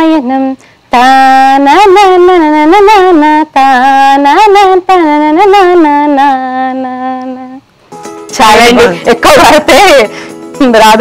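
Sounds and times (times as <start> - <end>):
woman singing unaccompanied: 0.0 - 7.7, 8.3 - 11.0.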